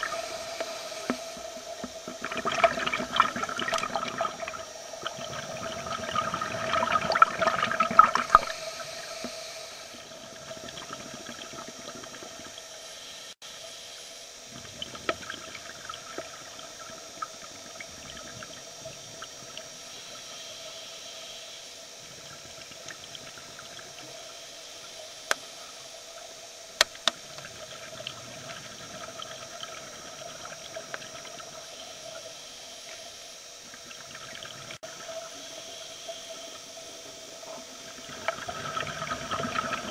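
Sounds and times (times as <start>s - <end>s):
underwater exhaled bubbles: 0.0s - 12.8s, 14.4s - 20.9s, 27.2s - 39.9s
steady hum: 0.0s - 39.9s.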